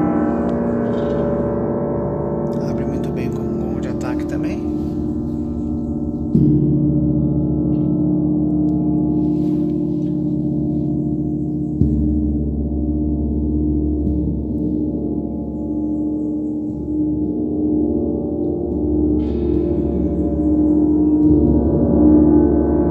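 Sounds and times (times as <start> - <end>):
gong struck and ringing: 0.0 - 22.9.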